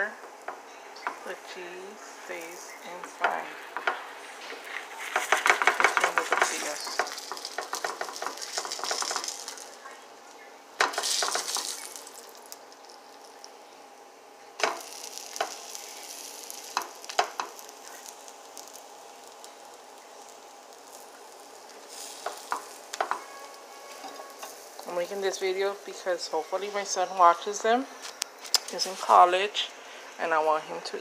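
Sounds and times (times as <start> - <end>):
food sizzling in oil: 0.0 - 29.7.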